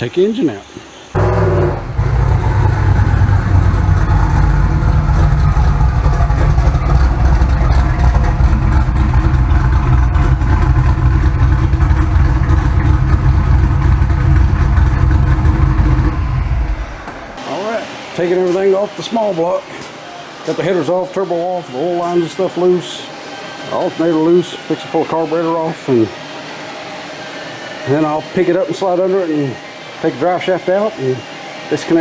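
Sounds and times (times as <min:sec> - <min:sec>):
engine running steadily: 0:01.2 - 0:32.0.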